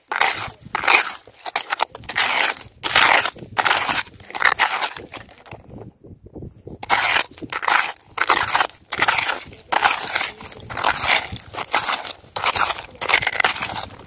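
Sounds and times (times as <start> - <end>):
hand scraping coarse sand: 0.0 - 5.4, 6.8 - 14.0.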